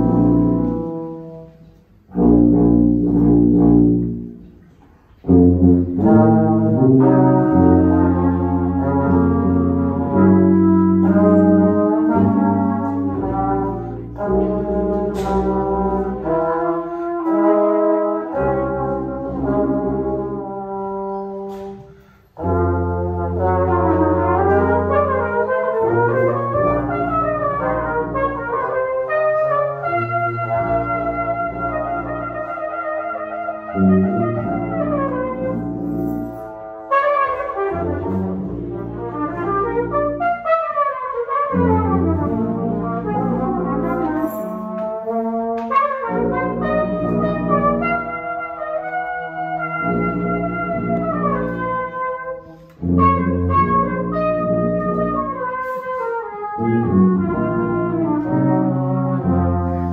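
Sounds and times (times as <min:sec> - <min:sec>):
brass trio playing chords: 0:00.0 - 0:59.9.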